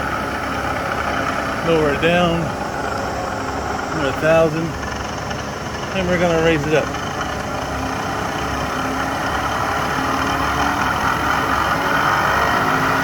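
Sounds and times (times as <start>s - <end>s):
milling machine spindle whine: 0.0s - 13.0s.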